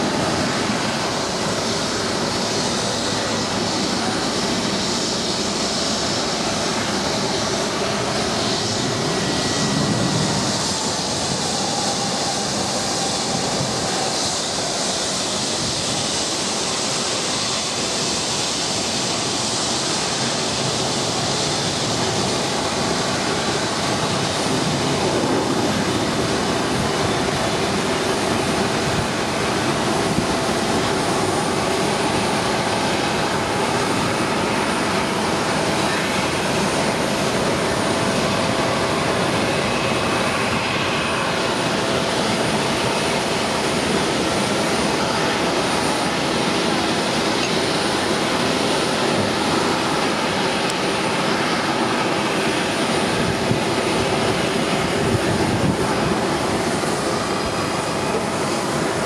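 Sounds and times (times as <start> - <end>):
jet airliner taxiing: 0.0 - 59.0.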